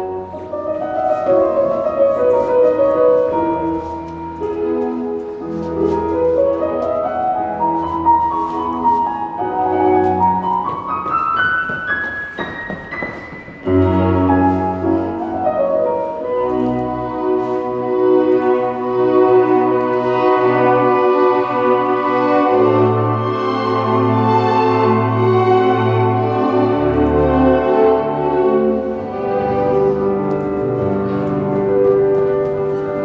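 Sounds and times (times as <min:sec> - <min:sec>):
classical piano music: 0:00.0 - 0:33.0.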